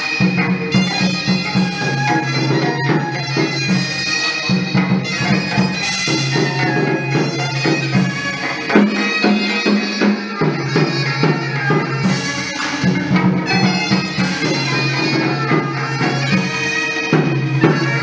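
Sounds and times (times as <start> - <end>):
percussion strokes: 0.0 - 18.0
sustained ritual melody: 0.0 - 18.0.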